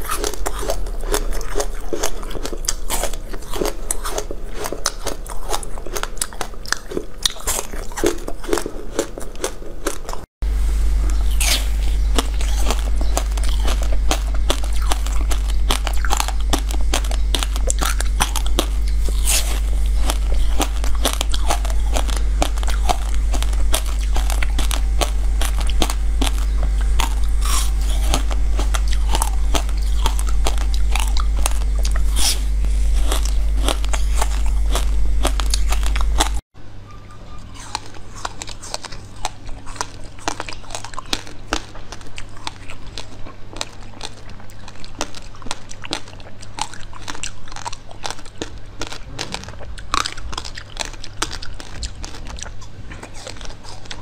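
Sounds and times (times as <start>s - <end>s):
ice crunching between teeth: 0.0s - 10.3s, 11.1s - 36.4s, 37.6s - 54.0s
steady low hum: 0.0s - 54.0s.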